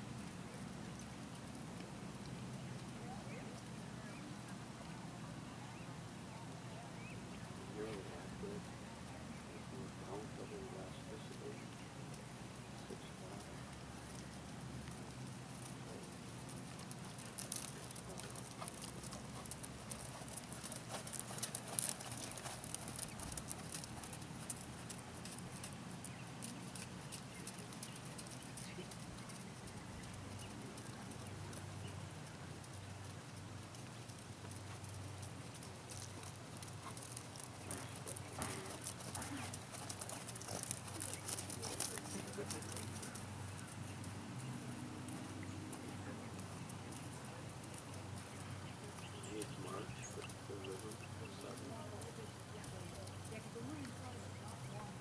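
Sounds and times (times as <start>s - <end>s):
horse hooves trotting on sand: 6.1s - 55.0s.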